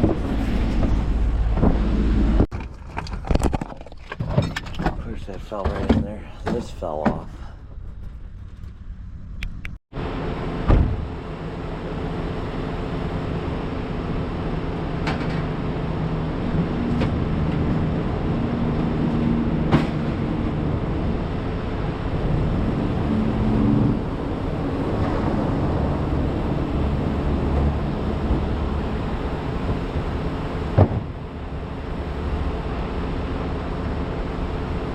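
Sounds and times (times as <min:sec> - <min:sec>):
truck engine drone: 0:00.0 - 0:02.5, 0:07.7 - 0:34.9
road noise: 0:00.0 - 0:34.9.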